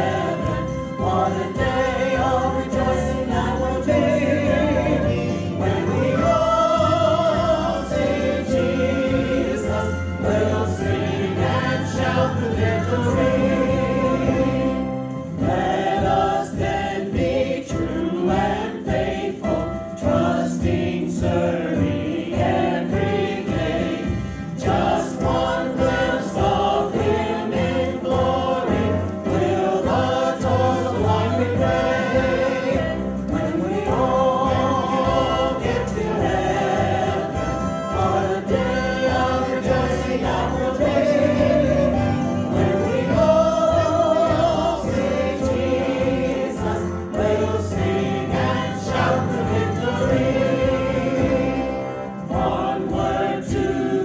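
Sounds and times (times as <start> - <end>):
group singing a hymn: 0.0 - 54.0
instrumental accompaniment with beat: 0.0 - 54.0.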